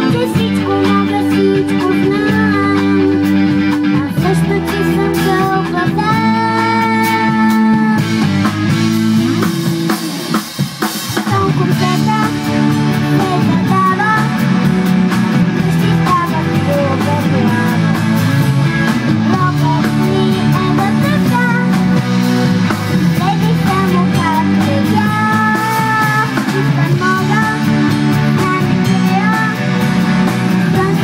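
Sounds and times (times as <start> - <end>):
drum kit: 0.0 - 31.0
electric guitar: 0.0 - 31.0.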